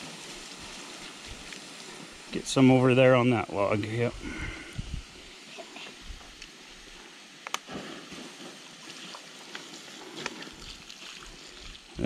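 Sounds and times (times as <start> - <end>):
faint fire crackles: 0.0 - 12.0
water hissing on embers: 0.0 - 12.0.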